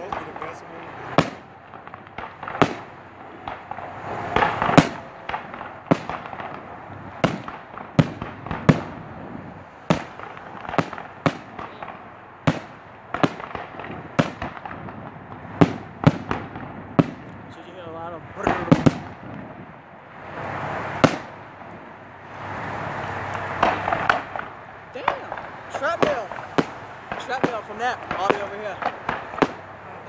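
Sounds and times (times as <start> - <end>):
fireworks bursting with sharp bangs: 0.0 - 30.0.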